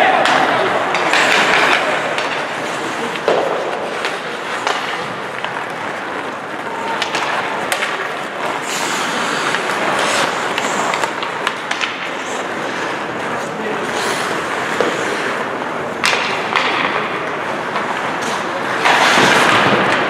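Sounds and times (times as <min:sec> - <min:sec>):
hockey sticks and puck clacking: 0:00.0 - 0:20.0
ice skates scraping: 0:00.0 - 0:20.0.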